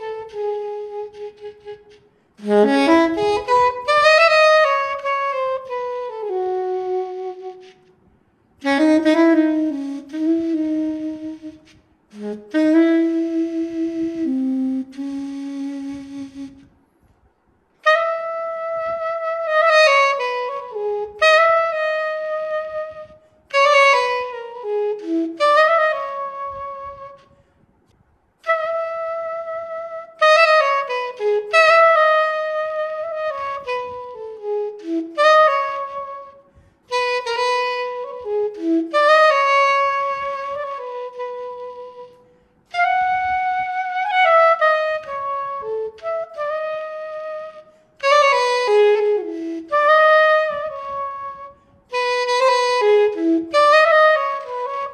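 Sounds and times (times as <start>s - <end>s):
soprano saxophone melody: 0.0s - 8.0s, 8.6s - 16.8s, 17.8s - 27.5s, 28.4s - 54.9s.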